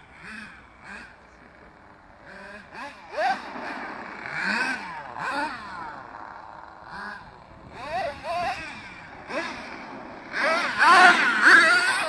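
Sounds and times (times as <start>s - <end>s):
toy truck engines revving: 0.0s - 12.0s.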